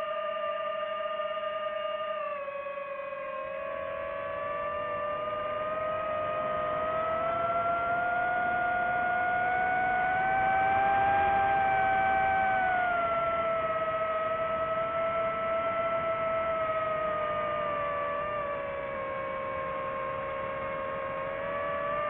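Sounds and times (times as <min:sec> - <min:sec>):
drone propellers whining: 0:03.8 - 0:22.0.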